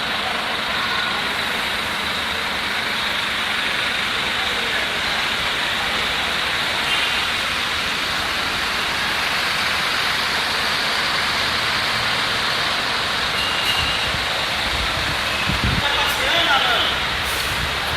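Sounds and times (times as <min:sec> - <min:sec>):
bus engine and road noise: 0:00.0 - 0:17.9.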